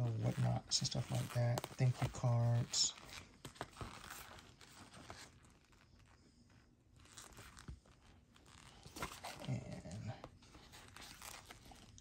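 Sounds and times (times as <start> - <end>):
hands rustling cards and packaging: 0.0 - 12.0.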